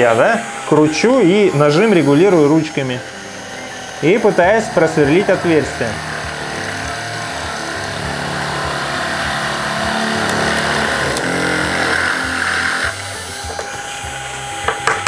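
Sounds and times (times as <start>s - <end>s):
drill bit grinding into plywood: 0.0s - 15.0s
small electric motor running: 0.0s - 15.0s.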